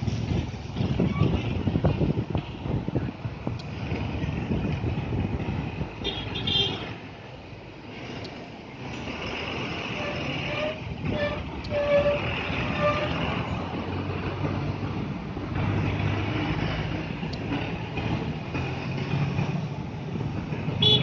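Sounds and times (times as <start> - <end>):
low engine hum: 0.0 - 21.0
motor vehicles running: 0.0 - 21.0
steady rushing noise: 0.0 - 21.0.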